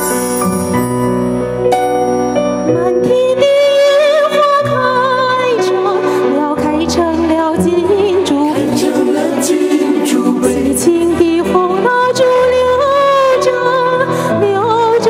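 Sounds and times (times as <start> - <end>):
backing music: 0.0 - 14.0
woman singing with vibrato: 2.8 - 15.0.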